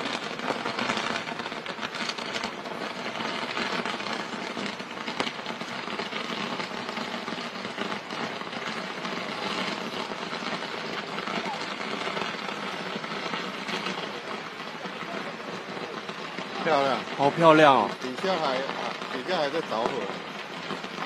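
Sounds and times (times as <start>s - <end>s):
fireworks crackling: 0.0s - 21.0s
sharp firework crack: 0.0s - 21.0s.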